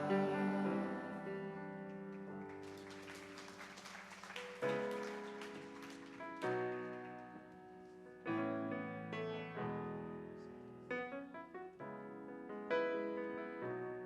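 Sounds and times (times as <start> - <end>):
piano playing slow chords: 0.0 - 3.7, 4.3 - 14.0.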